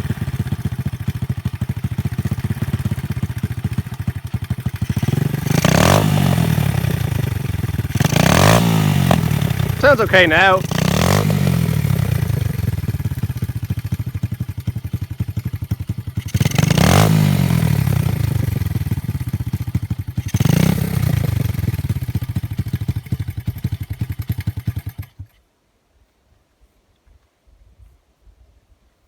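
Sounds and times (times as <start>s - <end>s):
motorbike engine revving: 0.0s - 25.3s.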